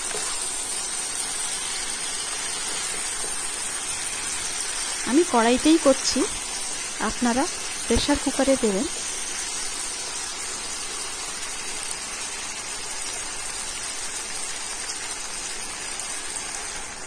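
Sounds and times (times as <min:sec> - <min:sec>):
curry sizzling in oil: 0:00.0 - 0:17.0.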